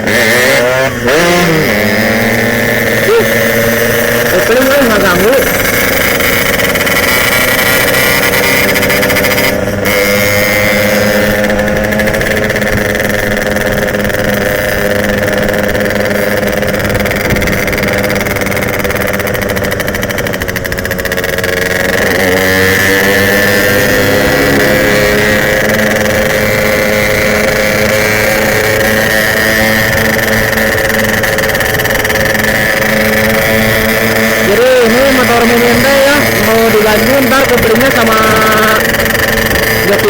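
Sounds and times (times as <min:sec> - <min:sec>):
two-stroke motorcycle engine running: 0:00.0 - 0:40.0.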